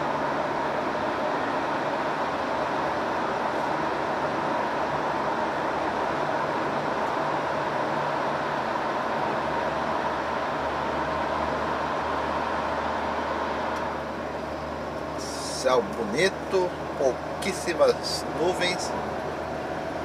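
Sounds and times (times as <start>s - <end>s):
low engine hum: 0.0s - 20.0s
road and wind noise: 0.0s - 20.0s.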